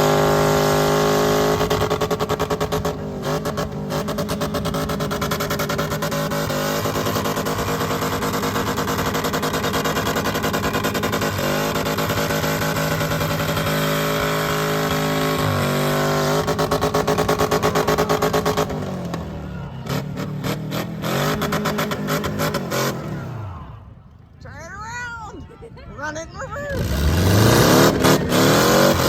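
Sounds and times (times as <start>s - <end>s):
truck engine revving: 0.0s - 24.2s, 26.6s - 29.0s.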